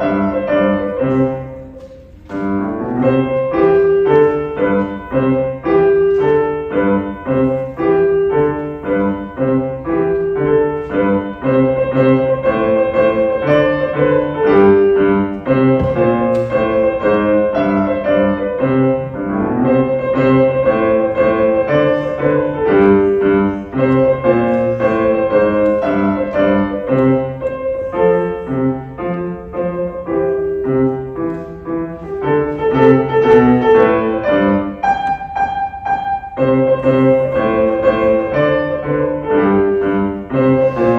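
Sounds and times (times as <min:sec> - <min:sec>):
piano melody with bass accompaniment: 0:00.0 - 0:40.9.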